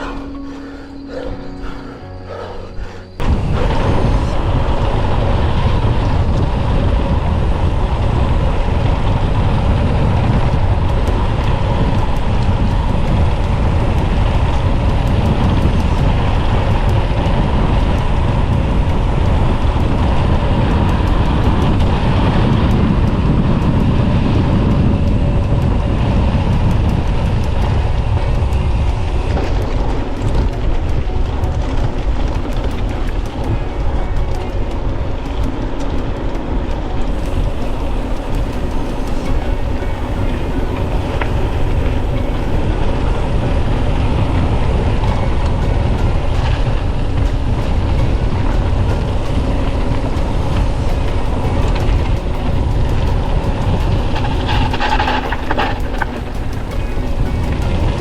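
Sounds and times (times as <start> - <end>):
bike tyres rolling: 0.0 - 58.0
wind rush on microphone: 0.0 - 58.0.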